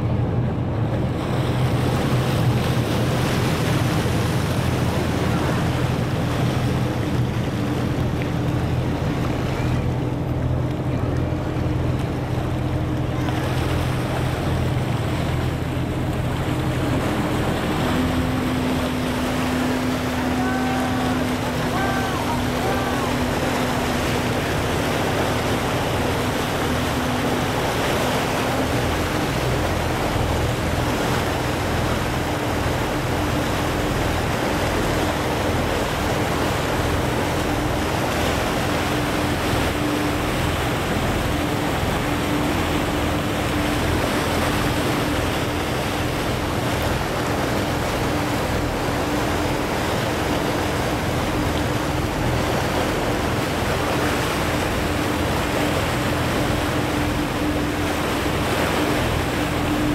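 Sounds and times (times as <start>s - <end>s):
motorboat engine humming: 0.0s - 59.9s
water rushing: 0.0s - 59.9s
wind: 0.0s - 59.9s.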